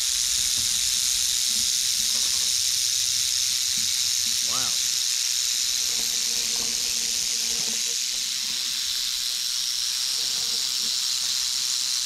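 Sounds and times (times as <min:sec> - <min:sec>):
rattlesnake rattling: 0:00.0 - 0:12.0.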